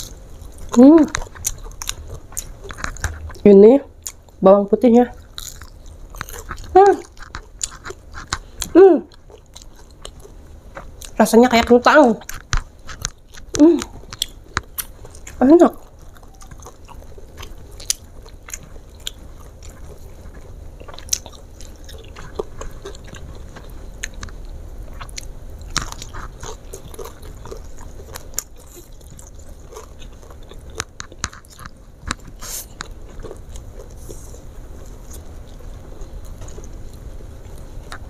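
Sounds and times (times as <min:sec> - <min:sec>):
chewing crispy food: 0:00.0 - 0:38.0.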